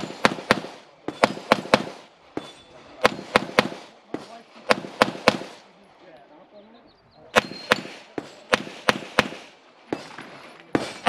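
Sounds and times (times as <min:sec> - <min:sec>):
pistol shots: 0:00.0 - 0:05.7, 0:07.4 - 0:11.0.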